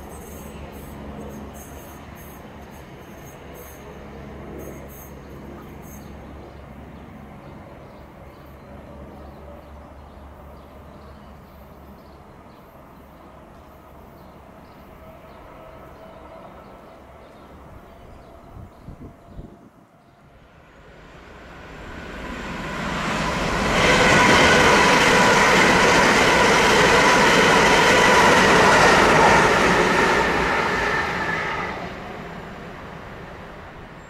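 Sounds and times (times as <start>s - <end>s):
passenger train rumbling: 0.0s - 34.0s.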